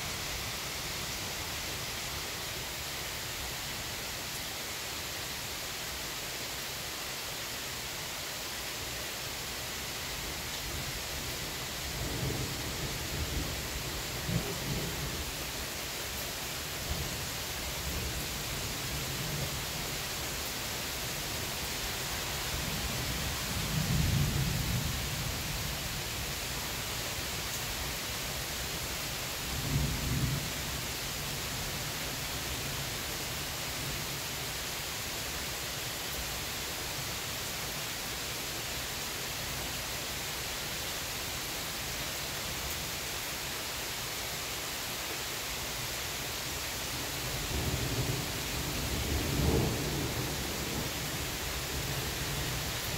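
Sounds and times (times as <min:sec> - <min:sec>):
steady rain hiss: 0:00.0 - 0:52.9.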